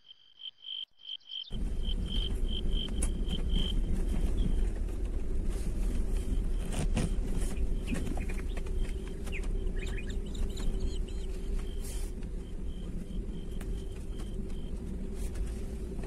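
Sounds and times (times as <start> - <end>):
birds chirping: 0.0 - 5.0, 5.9 - 16.0
vehicle rumbling on dirt track: 1.5 - 16.0.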